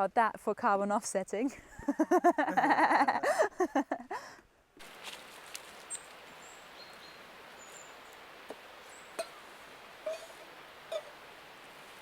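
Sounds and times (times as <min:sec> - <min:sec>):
steady background hiss: 0:01.2 - 0:12.0.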